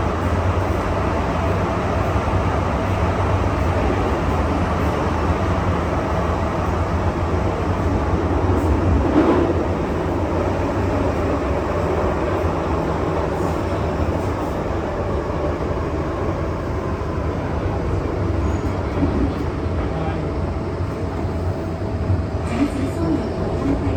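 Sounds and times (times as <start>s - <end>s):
metro train wheels rumbling on rail: 0.0s - 23.9s.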